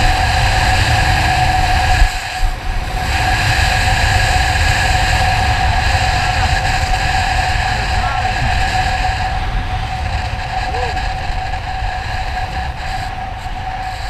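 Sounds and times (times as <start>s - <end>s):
motorcycle engine hum: 0.0s - 14.0s
wind and road noise: 0.0s - 14.0s.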